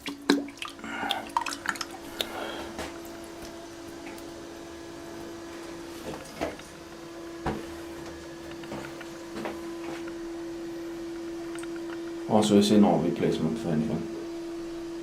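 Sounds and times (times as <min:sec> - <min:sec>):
toilet cistern fill valve humming: 0:00.0 - 0:15.0.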